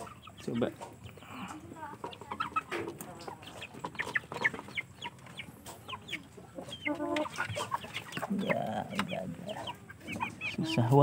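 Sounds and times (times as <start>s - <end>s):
chickens clucking: 0.0s - 11.0s
chicks peeping: 0.0s - 11.0s.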